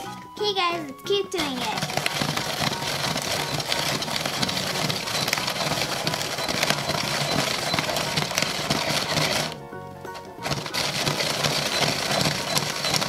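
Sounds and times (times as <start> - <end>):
ice crusher grinding ice: 1.4 - 13.0.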